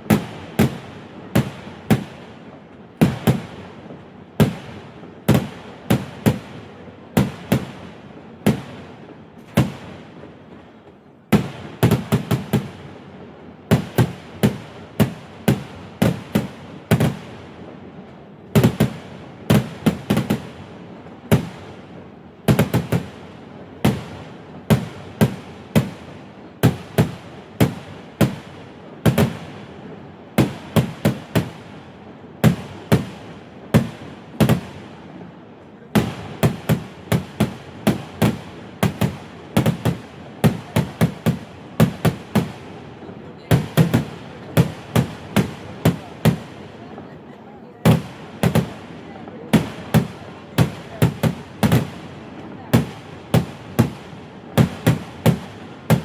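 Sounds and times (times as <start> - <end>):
fireworks banging: 0.0 - 56.0.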